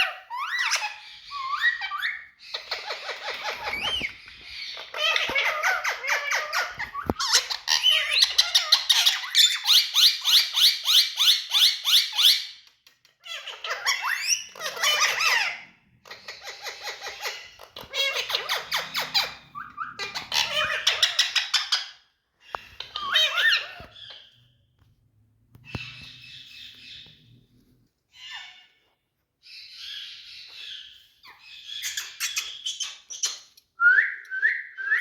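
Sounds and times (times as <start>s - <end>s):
parakeet chattering and squawking: 0.0s - 12.6s, 13.2s - 24.6s, 29.5s - 33.6s.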